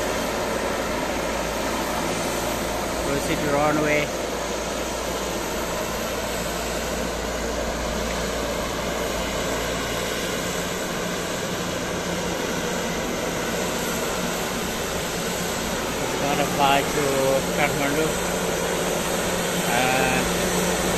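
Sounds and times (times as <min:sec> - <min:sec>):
turboprop engines running: 0:00.0 - 0:20.9.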